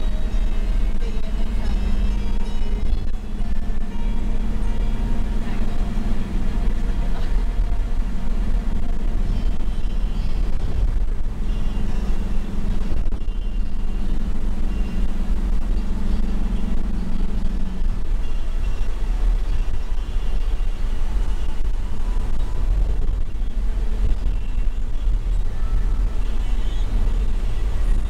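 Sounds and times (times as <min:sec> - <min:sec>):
tyre and road rumble: 0:00.0 - 0:28.0
van engine hum: 0:00.0 - 0:28.0.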